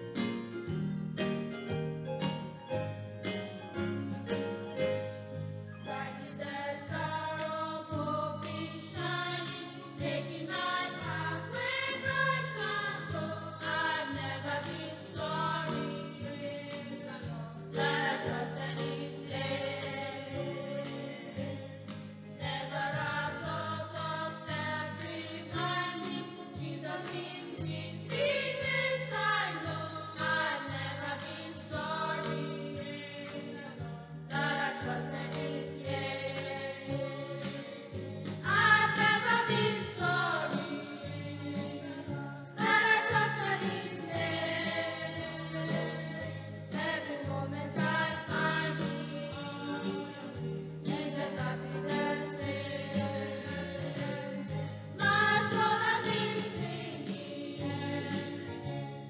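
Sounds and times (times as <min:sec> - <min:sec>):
keyboard backing: 0:00.0 - 0:59.0
choir singing a hymn: 0:04.8 - 0:59.0.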